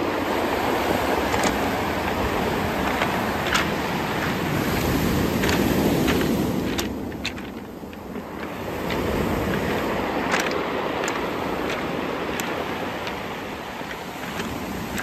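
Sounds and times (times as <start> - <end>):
surf washing up a beach: 0.0 - 15.0
stones knocking together: 1.2 - 15.0.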